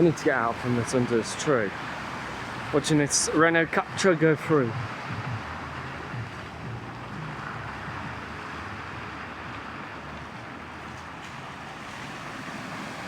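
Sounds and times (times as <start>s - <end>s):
faint low engine hum: 0.0s - 13.0s
water rushing around car: 0.0s - 13.0s.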